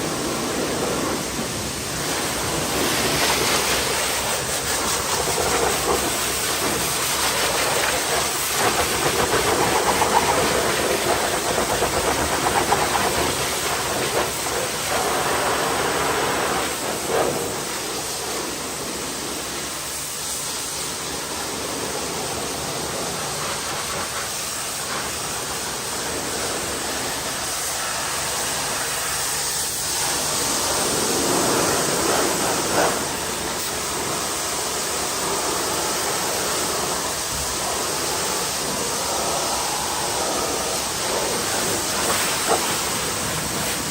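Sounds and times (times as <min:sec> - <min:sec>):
pressure washer spraying water: 0:00.0 - 0:43.9.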